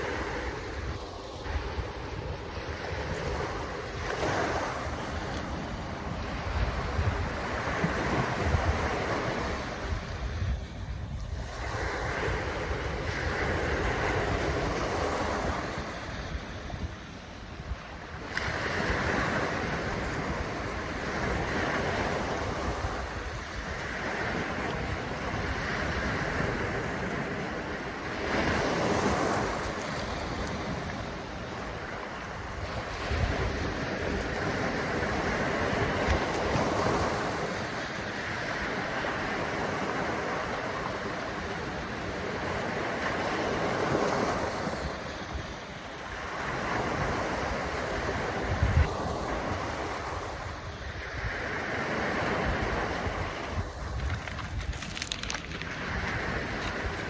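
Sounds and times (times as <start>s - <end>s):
rushing wind: 0.0s - 57.0s
waves: 0.0s - 57.0s
wind buffeting microphone: 0.0s - 57.0s.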